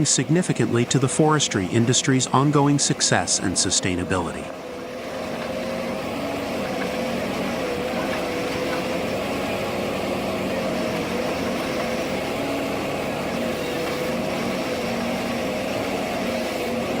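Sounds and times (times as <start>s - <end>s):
harvester engine and hydraulics: 0.0s - 17.0s.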